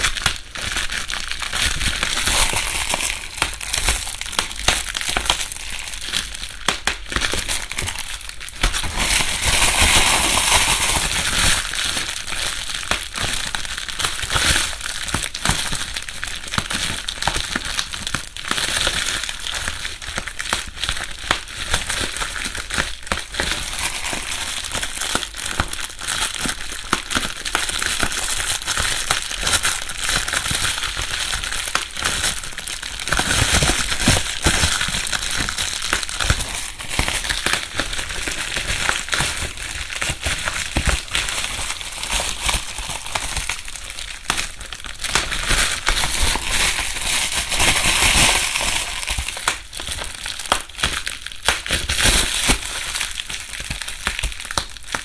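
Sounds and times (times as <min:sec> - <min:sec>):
bubble wrap crackling: 0:00.0 - 0:55.0.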